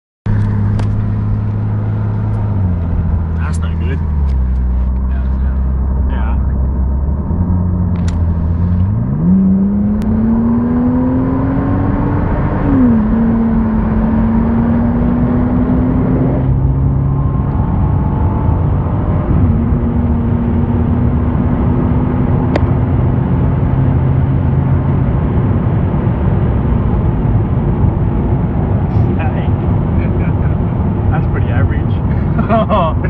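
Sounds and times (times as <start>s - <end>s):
car engine accelerating from inside: 0.3s - 33.0s.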